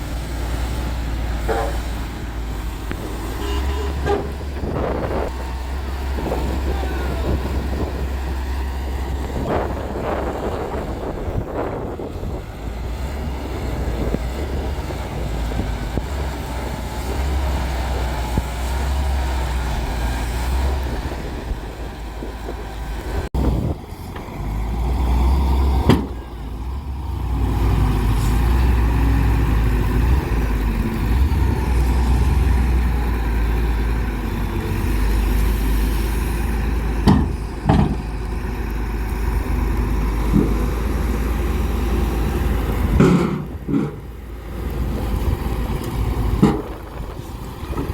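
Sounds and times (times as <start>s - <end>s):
heavy diesel engine rumbling: 0.0s - 47.9s.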